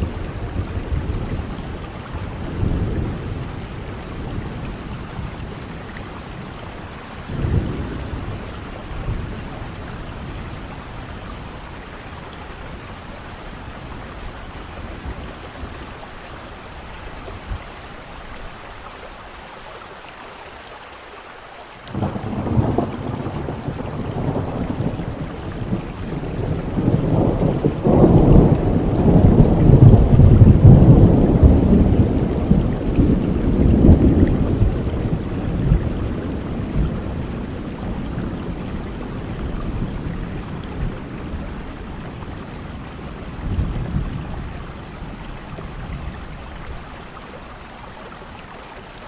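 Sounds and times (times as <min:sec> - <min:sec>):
thunder rumbling: 0:00.0 - 0:17.8, 0:21.9 - 0:47.2
heavy rain hissing: 0:00.0 - 0:49.0.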